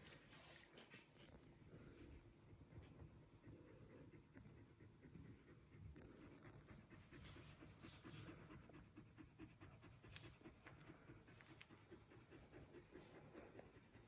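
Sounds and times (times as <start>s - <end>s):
dog panting faintly: 0.0s - 14.0s.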